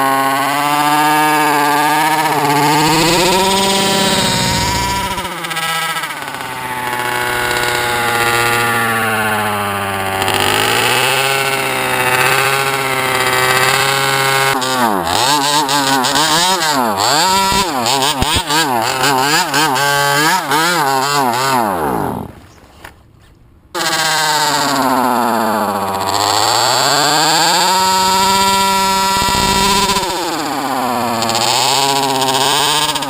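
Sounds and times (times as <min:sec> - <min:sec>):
small two-stroke engine revving: 0:00.0 - 0:22.6, 0:23.7 - 0:33.0.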